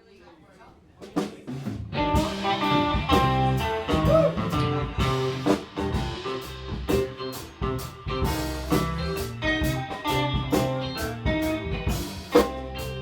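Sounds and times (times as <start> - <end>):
steady drum beat: 1.0 - 13.0
bass guitar: 1.7 - 13.0
electric guitar: 1.9 - 13.0.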